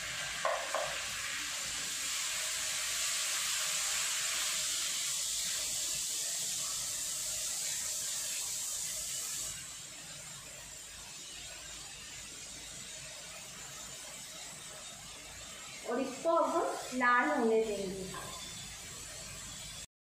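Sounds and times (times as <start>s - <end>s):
onions sizzling in hot fat: 0.0s - 19.9s.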